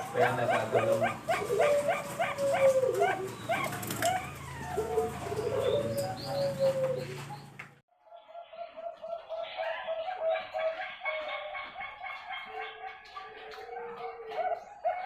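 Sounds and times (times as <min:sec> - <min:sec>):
doves cooing: 0:00.0 - 0:07.8, 0:08.4 - 0:15.0.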